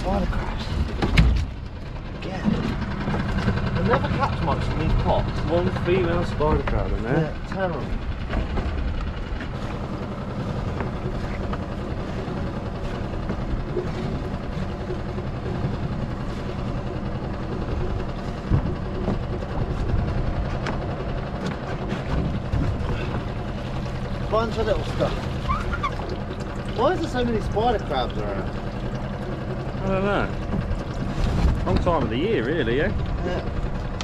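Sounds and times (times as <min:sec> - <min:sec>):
boat motor idling: 0:00.0 - 0:34.0
knocks and rattles of line: 0:00.6 - 0:05.0, 0:05.7 - 0:34.0.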